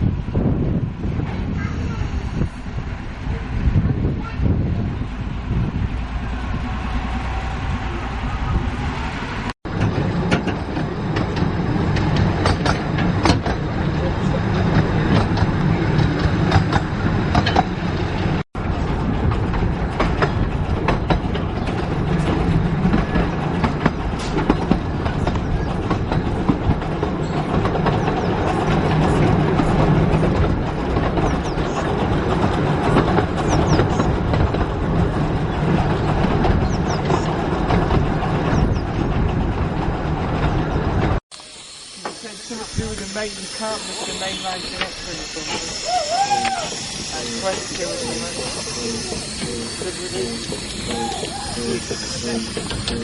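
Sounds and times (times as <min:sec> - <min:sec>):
train rumbling: 0:00.0 - 0:53.0
wheels clattering over rail joints: 0:06.0 - 0:53.0.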